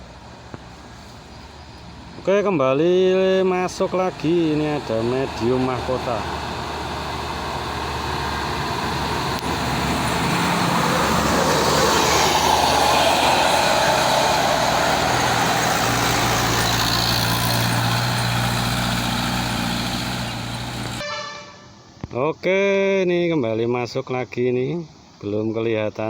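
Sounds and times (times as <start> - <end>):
diesel bus driving past: 0.0 - 22.0.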